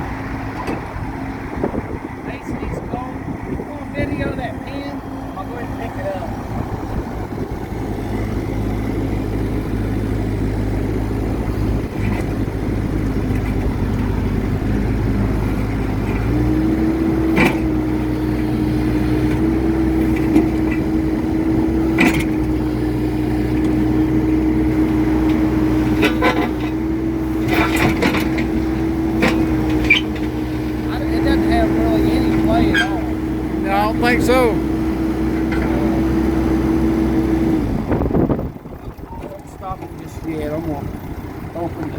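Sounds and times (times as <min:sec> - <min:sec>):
diesel engine running: 0:00.0 - 0:41.9
hydraulic whine: 0:00.0 - 0:41.9.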